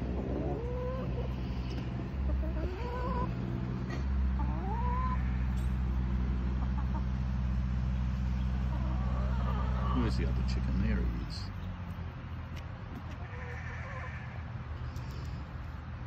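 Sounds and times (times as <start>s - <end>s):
chickens calling: 0.0s - 11.6s, 12.9s - 15.4s
riding mower engine humming: 0.0s - 13.2s.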